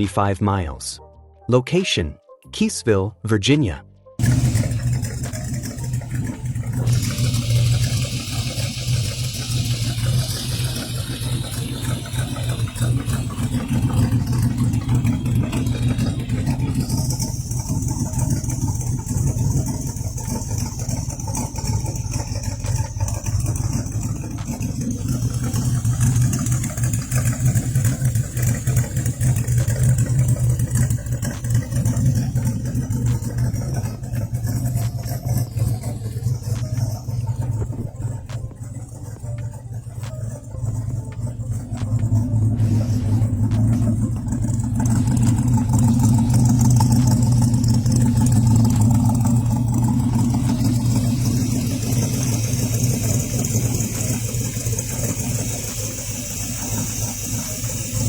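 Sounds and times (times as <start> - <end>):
hot rod engine running: 4.2 - 58.0.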